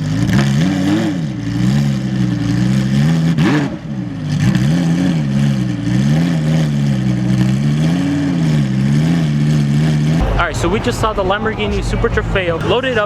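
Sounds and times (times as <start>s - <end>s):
race car engine at low revs: 0.0s - 13.0s.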